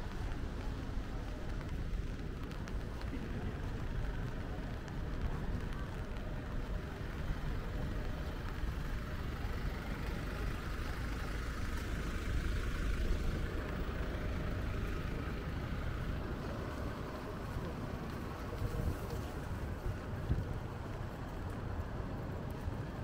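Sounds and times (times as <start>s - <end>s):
vehicle traffic rumble: 0.0s - 23.0s.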